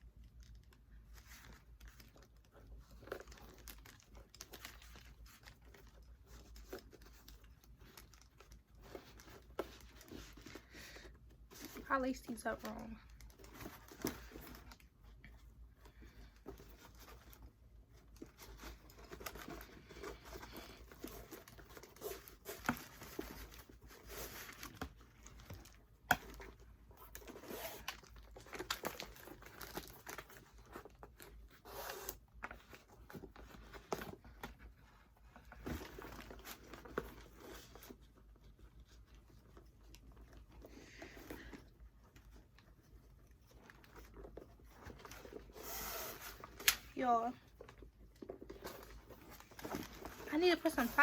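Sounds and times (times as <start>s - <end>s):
shoe rustling and crinkling: 0.3s - 51.0s.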